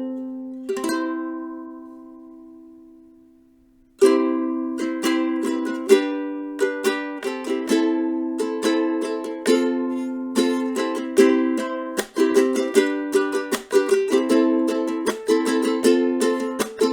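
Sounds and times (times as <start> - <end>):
ukulele chords strummed: 0.0 - 16.9.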